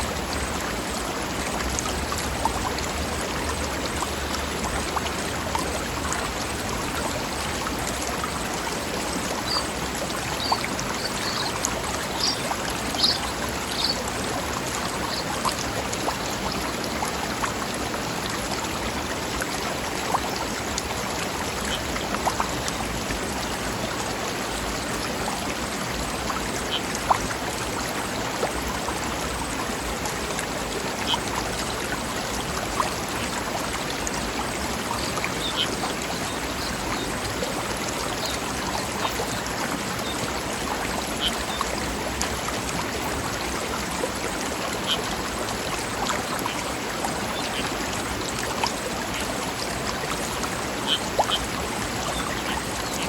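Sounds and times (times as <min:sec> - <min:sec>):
stream running over rocks: 0:00.0 - 0:53.0
water splashes: 0:00.0 - 0:53.0.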